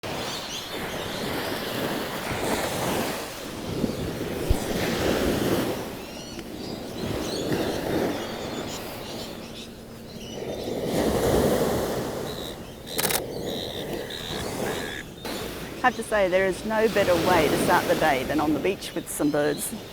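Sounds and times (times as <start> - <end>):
ocean surf washing onto beach: 0.0 - 12.6, 13.7 - 19.9.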